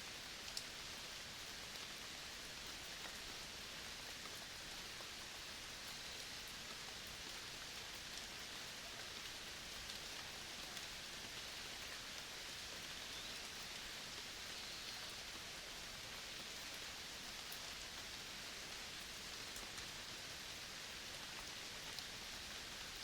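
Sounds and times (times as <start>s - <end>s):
quiet forest hiss: 0.0s - 23.0s.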